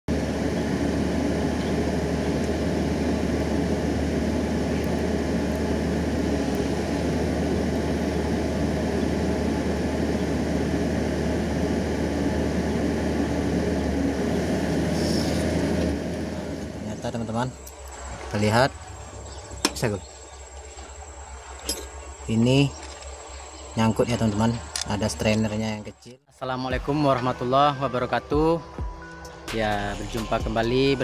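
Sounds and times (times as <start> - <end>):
excavator diesel engine running: 0.1 - 25.7.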